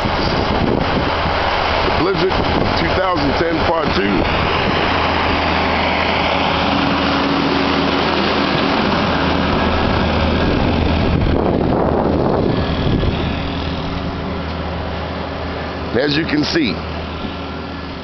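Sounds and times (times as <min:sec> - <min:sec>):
loud rushing noise: 0:00.0 - 0:18.0
truck engine humming: 0:00.0 - 0:18.0.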